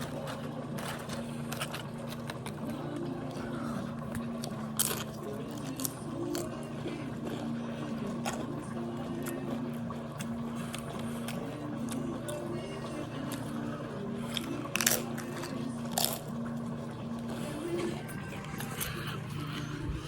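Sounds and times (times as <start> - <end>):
tortilla chips crunching: 0.0 - 16.5, 17.2 - 19.8.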